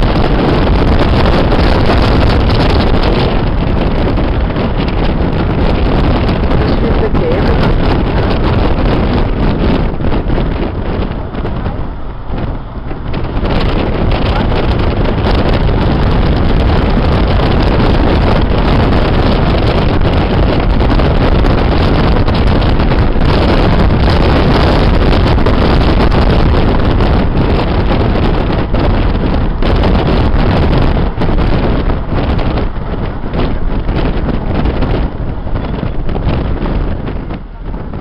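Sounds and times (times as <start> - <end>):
car engine and road noise: 0.0 - 38.0
wind buffeting microphone: 0.0 - 38.0.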